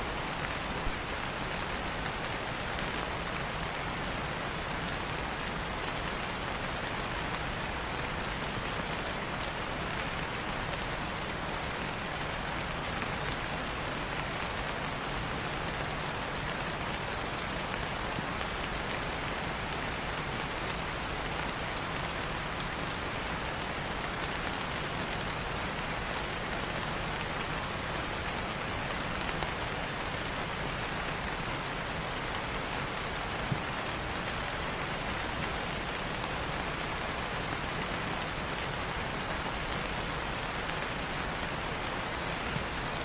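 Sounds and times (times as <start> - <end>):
rain falling on leaves: 0.0 - 43.0.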